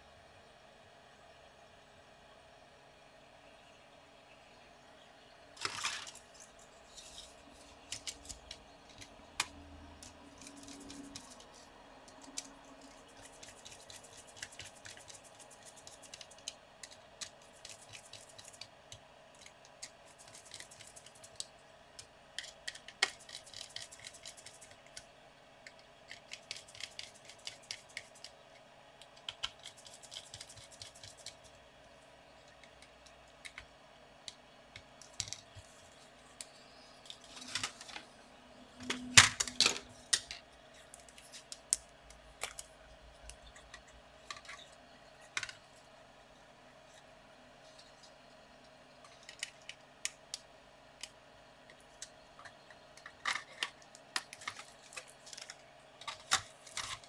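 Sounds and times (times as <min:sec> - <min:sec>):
small clicks taps and scrapes: 0:05.6 - 0:31.5, 0:32.4 - 0:38.1, 0:38.8 - 0:45.8, 0:46.8 - 0:57.0.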